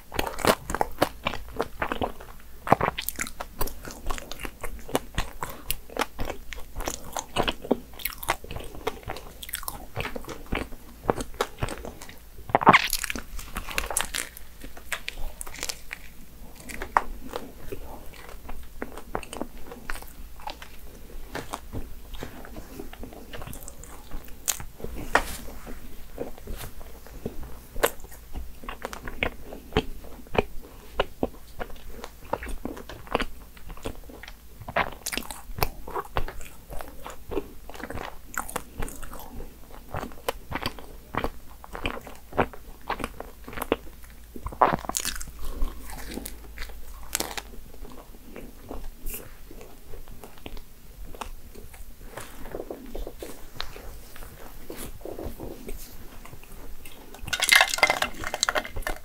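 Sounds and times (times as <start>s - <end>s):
crunching pastry: 0.0s - 59.0s
wet chewing: 0.0s - 59.0s.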